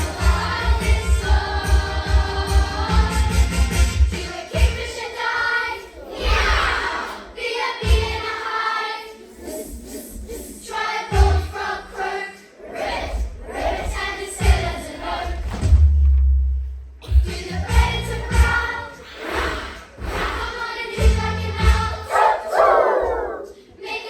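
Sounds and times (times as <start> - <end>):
children singing together: 0.0 - 3.4, 4.1 - 15.6, 17.0 - 24.0.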